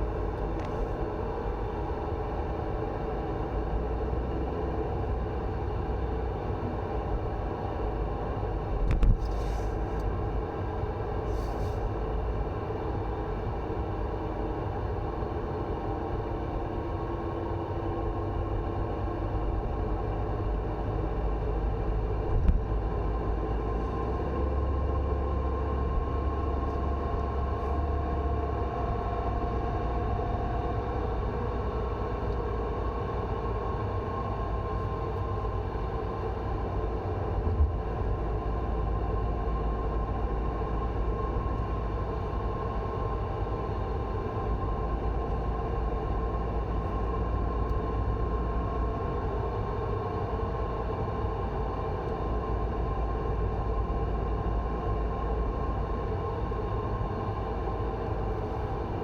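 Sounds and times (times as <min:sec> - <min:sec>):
road and drivetrain rumble: 0:00.0 - 0:59.0.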